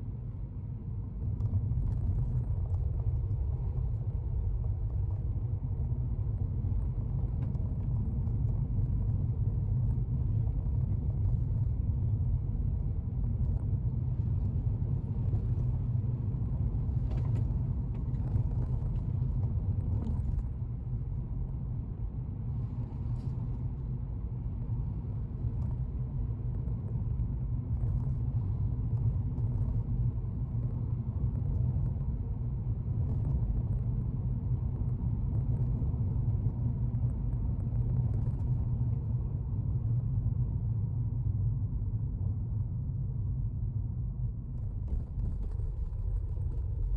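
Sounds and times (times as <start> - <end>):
car interior road rumble: 0.0 - 46.9.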